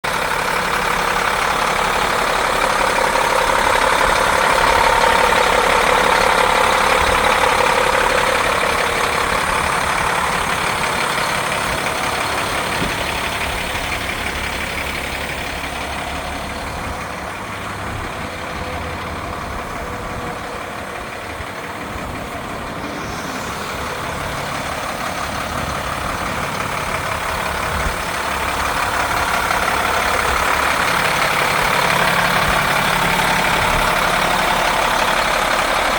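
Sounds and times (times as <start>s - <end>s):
diesel truck engine idling: 0.0s - 35.9s.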